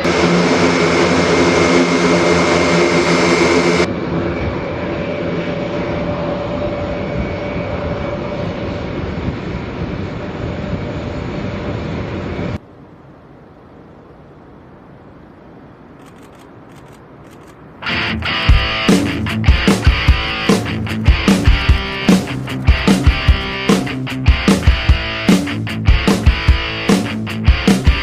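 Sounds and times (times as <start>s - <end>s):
turboprop engines droning: 0.0s - 28.0s.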